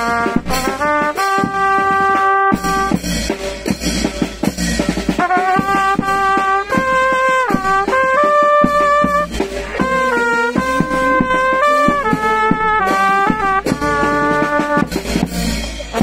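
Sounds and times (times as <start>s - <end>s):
bass drum beat: 0.0s - 16.0s
brass band playing long notes: 0.0s - 16.0s.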